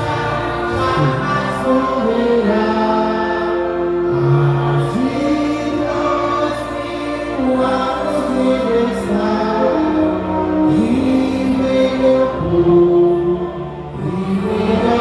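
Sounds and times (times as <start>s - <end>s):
group singing worship song: 0.0s - 15.0s.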